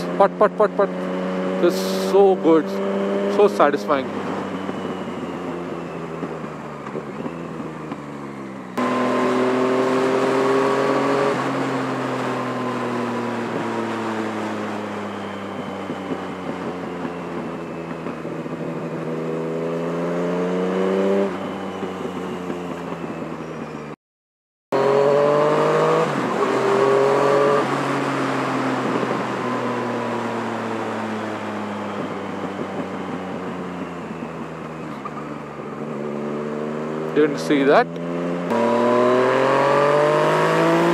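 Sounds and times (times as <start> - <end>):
motorcycle engine revving: 0.0 - 24.0, 24.7 - 40.9.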